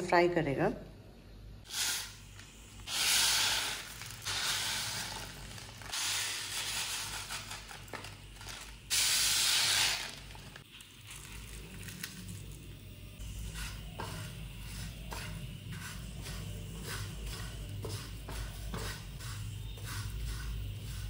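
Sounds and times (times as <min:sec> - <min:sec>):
spices sizzling in a pan: 0:01.7 - 0:21.0.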